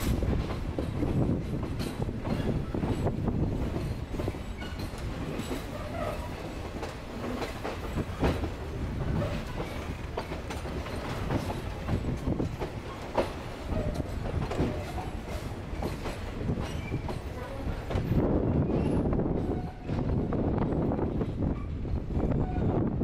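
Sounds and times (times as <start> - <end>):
clickety-clack over rail joints: 0.0 - 23.0
train wheel rumble: 0.0 - 23.0.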